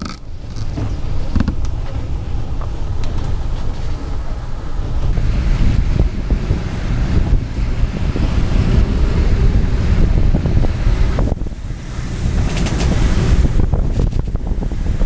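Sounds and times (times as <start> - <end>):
strong wind buffeting microphone: 0.0 - 15.0
waves rushing: 0.0 - 15.0.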